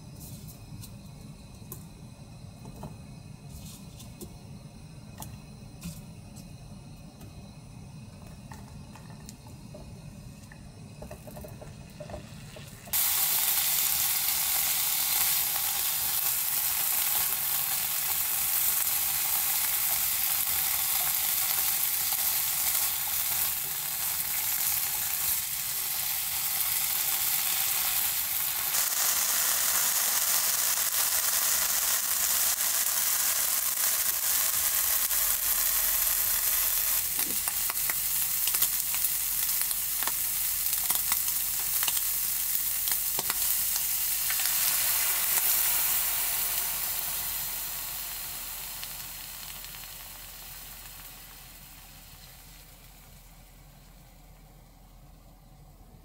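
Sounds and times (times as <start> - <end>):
food sizzling in frying pan: 8.0 - 54.0.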